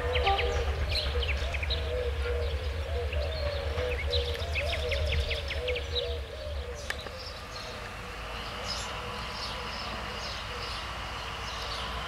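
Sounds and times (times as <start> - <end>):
birds chirping: 0.0 - 12.0
distant locomotive rumble: 0.0 - 12.0.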